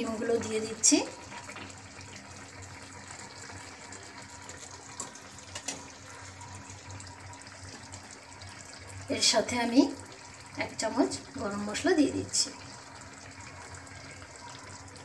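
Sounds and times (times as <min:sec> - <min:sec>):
curry simmering in pan: 0:00.0 - 0:15.0.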